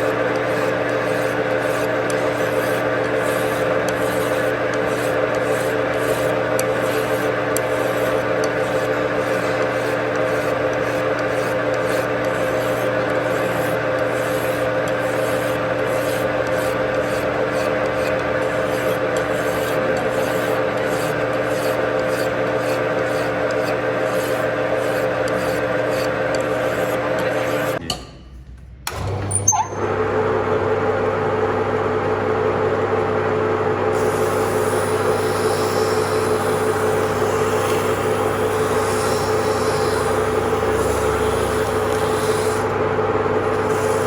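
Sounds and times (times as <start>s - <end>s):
power tool grinding metal: 0.0s - 27.8s, 34.0s - 42.8s, 43.4s - 44.0s.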